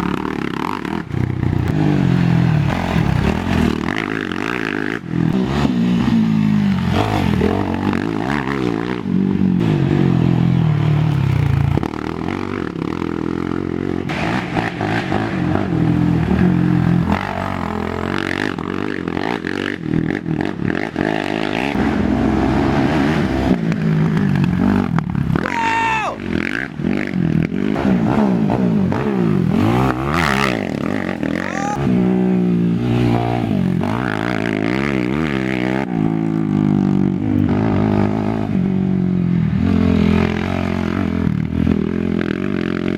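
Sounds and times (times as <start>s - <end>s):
quad engines revving: 0.0s - 42.9s.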